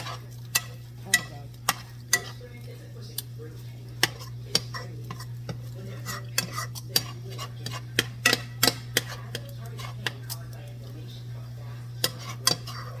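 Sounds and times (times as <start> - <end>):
steady low hum: 0.0 - 13.0
utensil scraping a cooking pot: 0.0 - 13.0.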